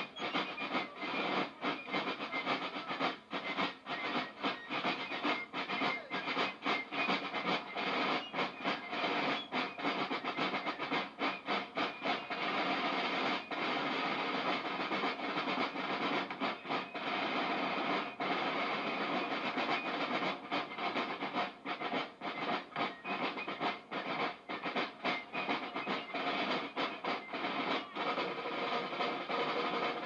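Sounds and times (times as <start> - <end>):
field drums rattling beat: 0.0 - 30.0.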